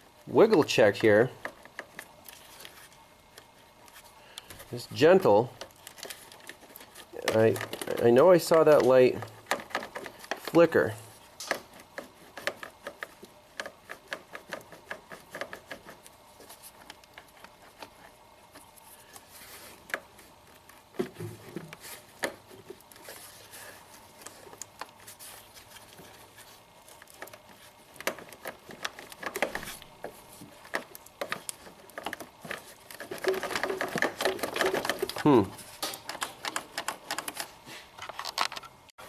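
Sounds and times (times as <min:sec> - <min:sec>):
wiring harness clicking and rustling: 0:00.3 - 0:38.8.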